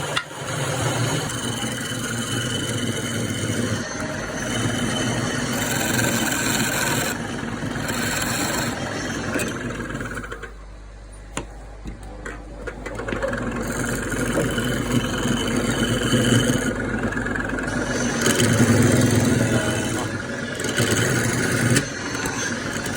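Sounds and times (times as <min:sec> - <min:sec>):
abrasive tool scraping wood: 0:00.0 - 0:10.5, 0:13.1 - 0:22.9.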